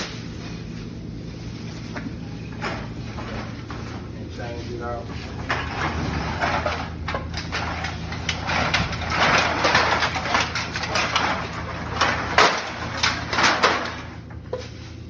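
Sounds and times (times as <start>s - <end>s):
plastic bag rustling: 0.0s - 15.0s
steady low hum: 0.0s - 15.0s.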